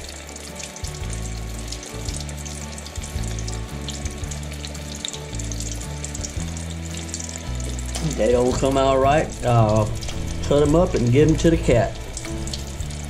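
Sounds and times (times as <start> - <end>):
music bass line: 0.0 - 13.0
oil bubbling and crackling: 0.0 - 13.0.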